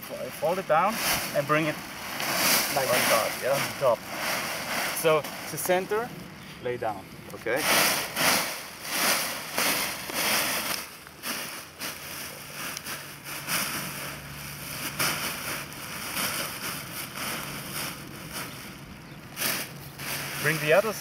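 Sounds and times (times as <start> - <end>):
canopy cloth rustling: 0.0 - 6.1, 7.5 - 21.0.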